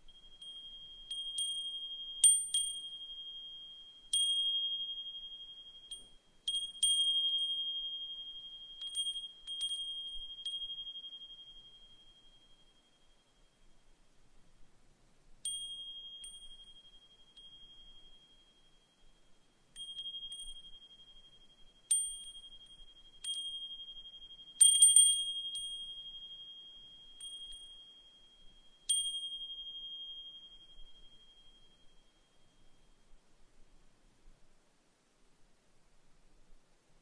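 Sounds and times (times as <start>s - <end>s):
wind chime ringing: 0.0s - 13.5s, 15.4s - 19.1s, 19.7s - 32.8s.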